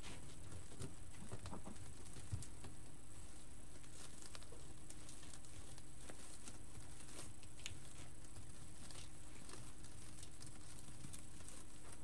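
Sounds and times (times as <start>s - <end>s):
mesh rustling and crinkling: 0.0s - 12.0s
small crackles and clicks: 0.4s - 12.0s.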